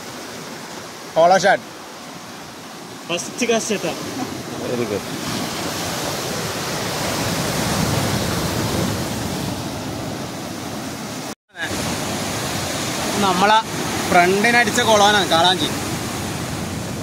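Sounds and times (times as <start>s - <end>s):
surf washing over rocks: 0.0s - 17.0s.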